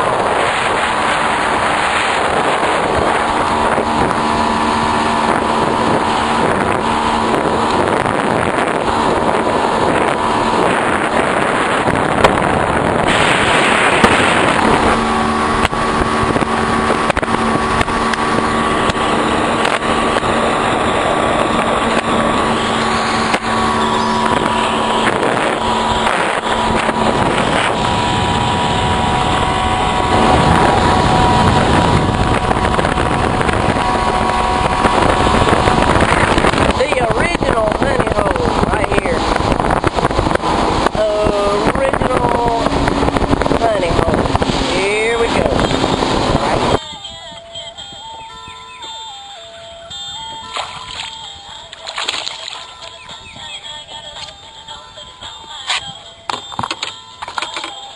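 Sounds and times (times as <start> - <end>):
wind and water rushing: 0.0 - 55.0
motorboat engine running: 0.0 - 57.9.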